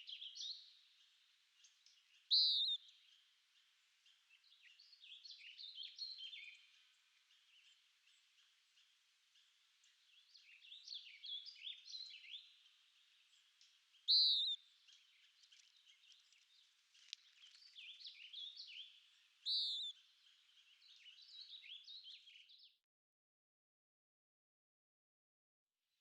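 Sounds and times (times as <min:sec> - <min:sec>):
songbirds chirping and trilling: 0:00.0 - 0:22.8.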